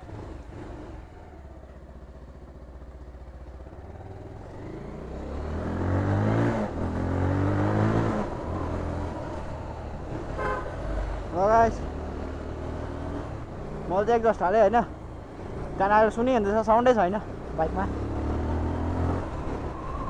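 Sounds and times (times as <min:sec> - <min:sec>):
motorcycle engine accelerating: 0:00.0 - 0:11.2, 0:11.8 - 0:16.2, 0:16.8 - 0:20.0.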